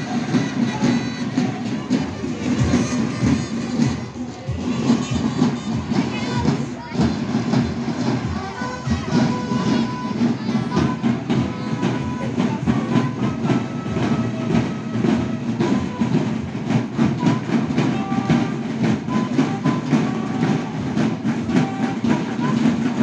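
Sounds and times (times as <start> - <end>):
marching field drums cadence: 0.0 - 23.0.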